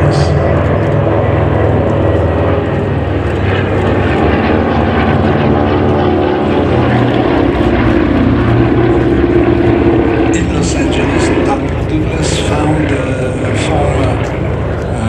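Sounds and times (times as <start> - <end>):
propeller aircraft droning overhead: 0.0 - 15.0.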